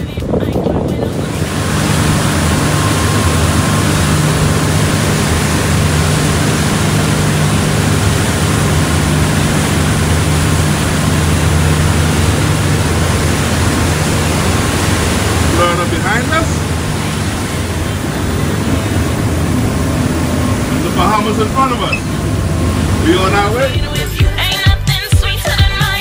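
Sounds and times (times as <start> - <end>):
diesel engines droning: 0.0 - 24.5
rushing wake water: 0.0 - 26.0.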